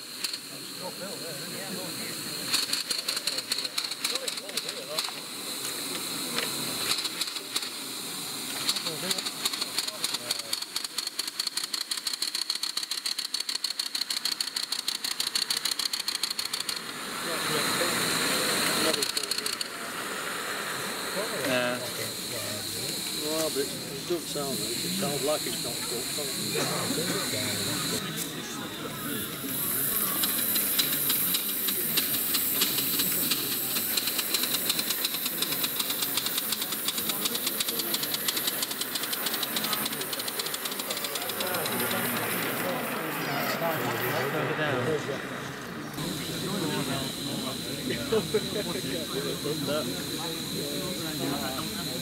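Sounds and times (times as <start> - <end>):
steam hiss: 0.0 - 52.0
steam locomotive chuffing: 0.0 - 52.0.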